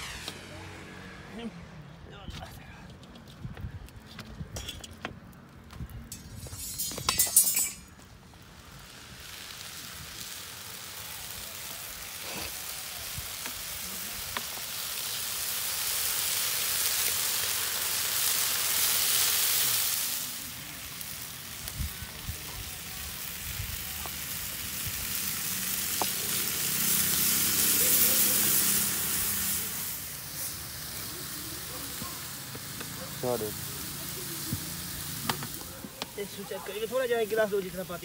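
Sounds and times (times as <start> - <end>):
food sizzling in hot oil: 6.1 - 38.0.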